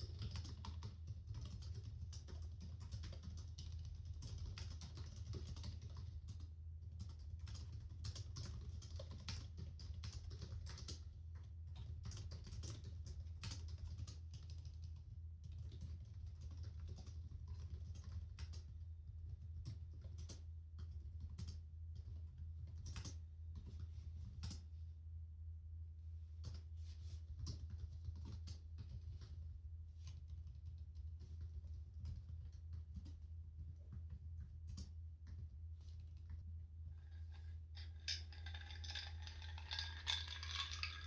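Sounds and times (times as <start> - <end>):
constant low hum: 0.0 - 41.0.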